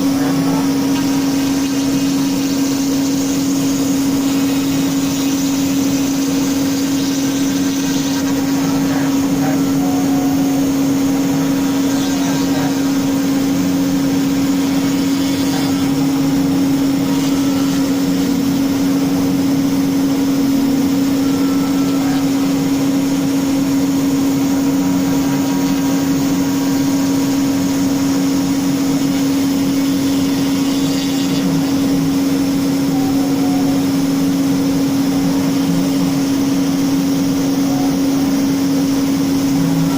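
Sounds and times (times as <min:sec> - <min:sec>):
router spindle humming: 0:00.0 - 0:39.9.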